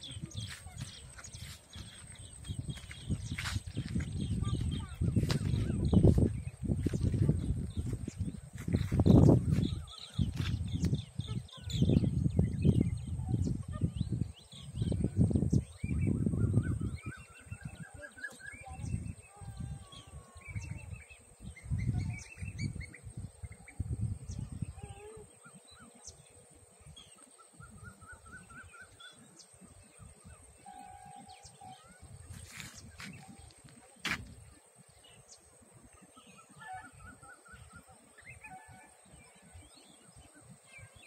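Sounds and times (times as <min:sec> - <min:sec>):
birds chirping and trilling: 0:00.0 - 0:41.0
wind buffeting microphone: 0:00.0 - 0:41.0.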